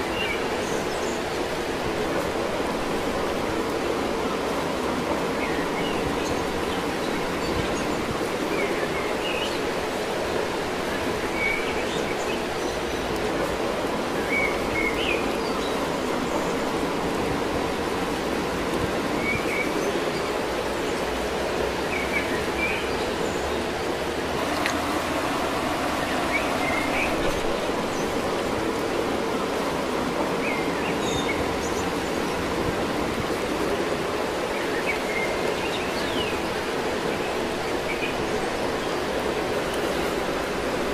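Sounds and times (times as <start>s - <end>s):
rushing outdoor background noise: 0.0s - 40.9s.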